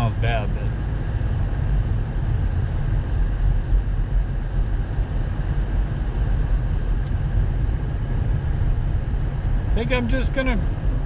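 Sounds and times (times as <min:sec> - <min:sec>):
car driving low rumble: 0:00.0 - 0:11.0.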